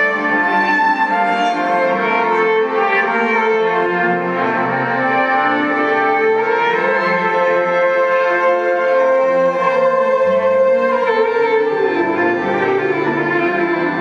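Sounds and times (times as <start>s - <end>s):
layered sustained violin chords: 0.0s - 14.0s.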